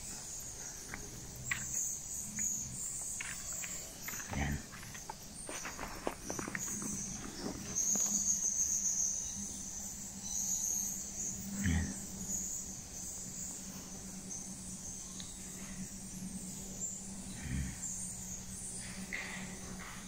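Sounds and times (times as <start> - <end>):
insects high-pitched drone: 0.0 - 20.0.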